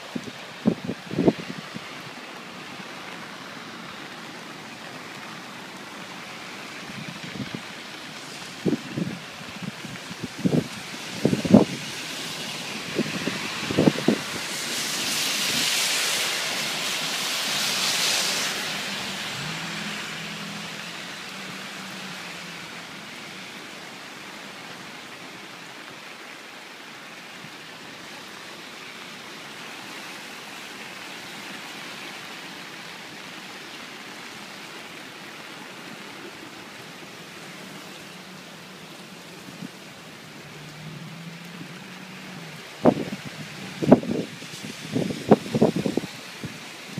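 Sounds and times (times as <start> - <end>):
rushing creek water: 0.0 - 46.9.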